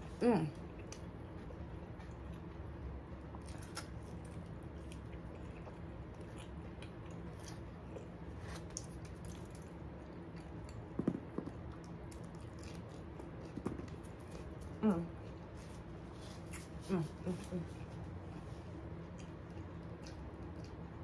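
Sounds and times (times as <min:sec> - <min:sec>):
person chewing food: 0:00.6 - 0:21.0.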